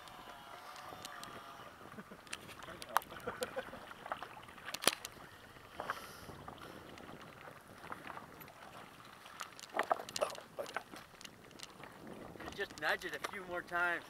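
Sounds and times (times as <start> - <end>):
lake water lapping and splashing: 0.0 - 14.0
wind on microphone: 0.0 - 14.0.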